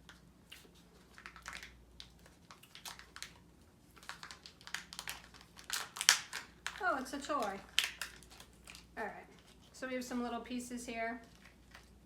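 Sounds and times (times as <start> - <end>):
plastic packaging crinkling: 0.0 - 9.8, 11.2 - 12.0.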